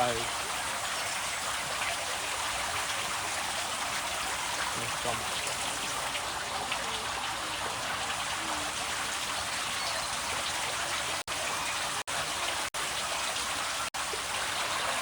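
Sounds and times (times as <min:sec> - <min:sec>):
water rushing and splashing: 0:00.0 - 0:15.0.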